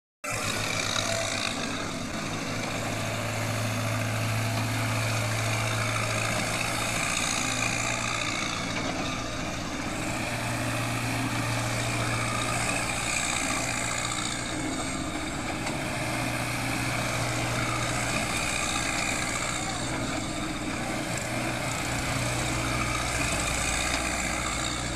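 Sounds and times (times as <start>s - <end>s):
diesel engine running: 0.2s - 24.9s.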